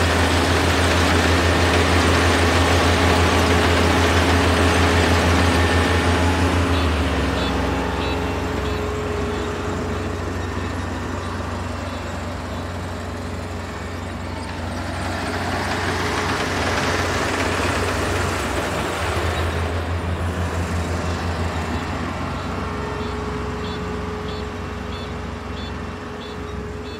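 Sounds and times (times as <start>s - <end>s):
combine harvester diesel engine: 0.0s - 26.9s.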